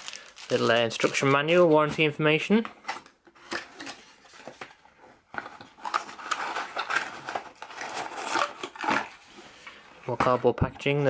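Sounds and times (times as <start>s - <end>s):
paper packaging rustling: 0.0s - 4.8s, 5.4s - 10.3s.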